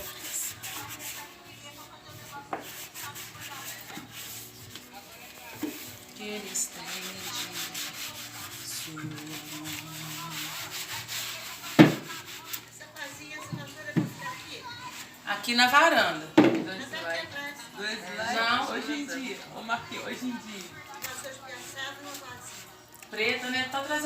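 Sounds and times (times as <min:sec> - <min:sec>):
rubbing and rustling: 0:00.0 - 0:15.7, 0:18.3 - 0:23.6.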